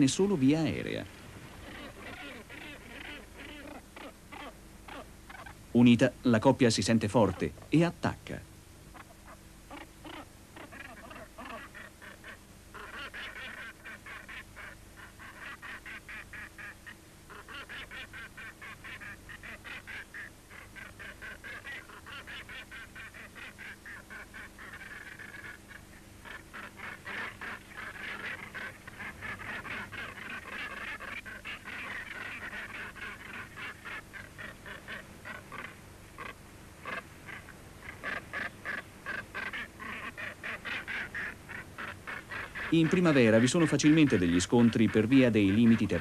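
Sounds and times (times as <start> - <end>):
gannets calling in harsh chatter: 1.6 - 5.5, 8.9 - 46.0.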